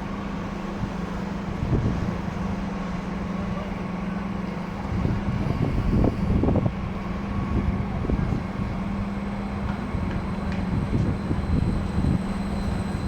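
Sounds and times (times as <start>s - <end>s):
train electric hum and rumble: 0.0s - 13.0s.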